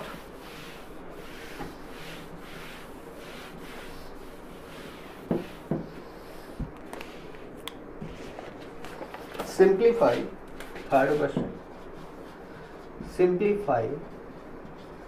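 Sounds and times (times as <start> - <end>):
duster rubbing on whiteboard: 0.0 - 13.2.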